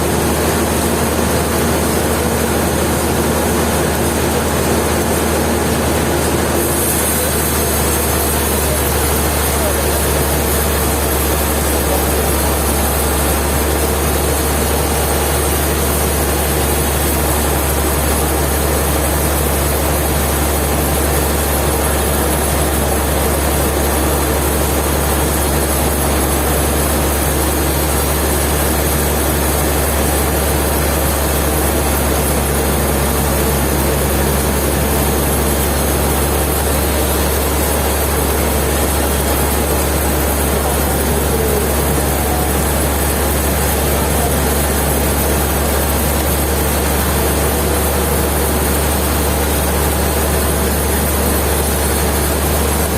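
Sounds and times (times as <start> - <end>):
heavy engine humming: 0.0 - 52.9.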